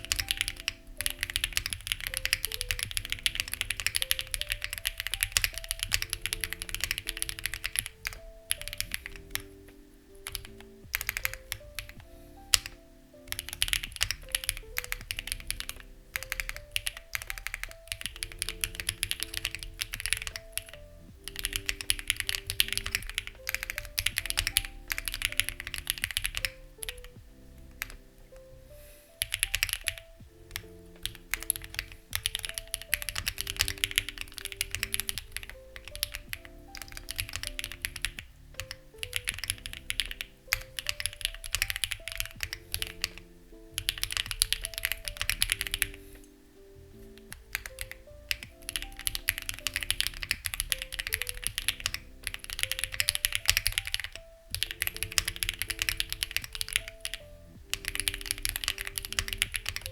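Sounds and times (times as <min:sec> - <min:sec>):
mechanical keyboard typing: 0:00.0 - 0:28.0, 0:29.2 - 0:46.2, 0:47.0 - 0:59.9
soft background music: 0:00.0 - 0:59.9.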